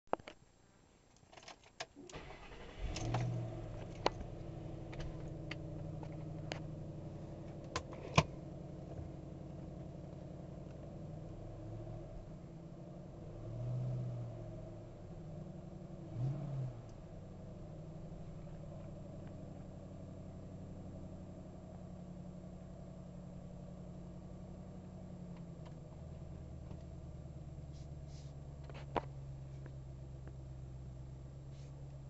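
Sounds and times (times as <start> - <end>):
car engine starting and idling: 1.4 - 32.0.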